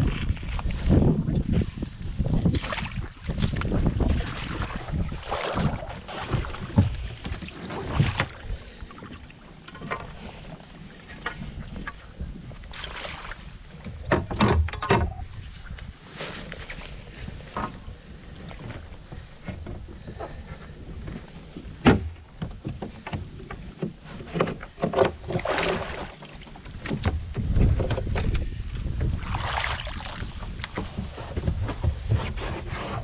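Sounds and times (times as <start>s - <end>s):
knocks and scrapes on kayak hull: 0.0s - 33.0s
wind rumble on microphone: 0.0s - 33.0s.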